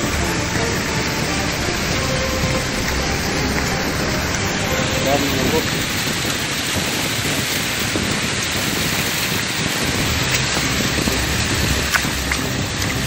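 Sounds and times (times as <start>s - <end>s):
stream water flowing over rocks: 0.0s - 13.0s.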